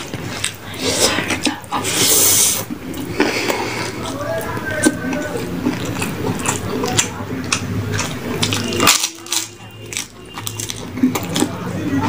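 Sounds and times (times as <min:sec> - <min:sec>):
chewing and mouth noises: 0:00.0 - 0:12.0.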